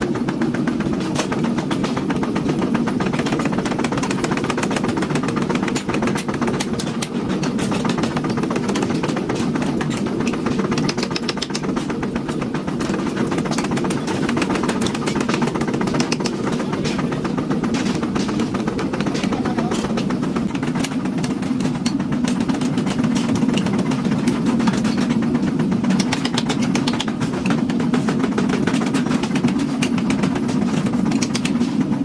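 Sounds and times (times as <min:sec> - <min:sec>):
low machine drone: 0:00.0 - 0:32.0.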